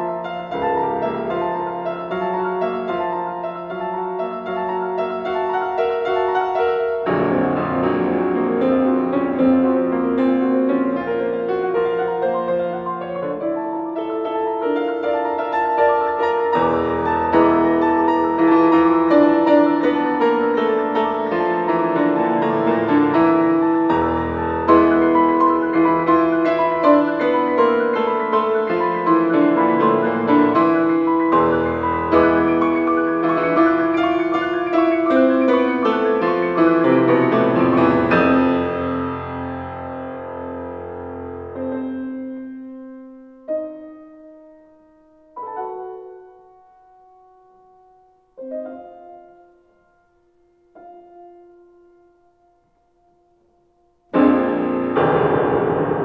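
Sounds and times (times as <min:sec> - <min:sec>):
deep piano bass notes: 0:00.0 - 0:47.3, 0:54.0 - 0:56.0
solo piano: 0:00.0 - 0:56.0.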